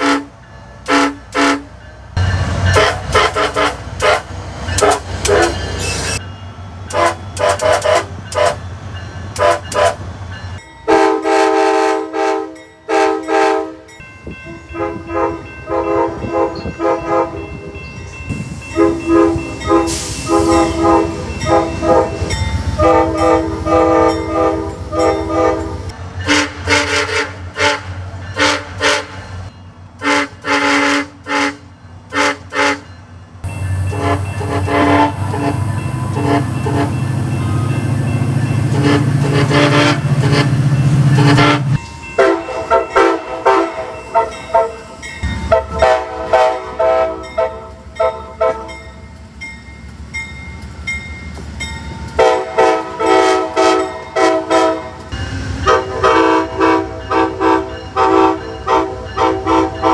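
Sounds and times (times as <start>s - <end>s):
train air horn blasts: 0.0s - 1.8s, 2.7s - 6.2s, 6.9s - 8.6s, 9.3s - 10.0s, 10.9s - 17.7s, 18.7s - 29.3s, 30.0s - 32.9s, 33.8s - 37.0s, 38.6s - 48.8s, 52.2s - 59.9s
diesel locomotive rumble: 0.0s - 59.9s.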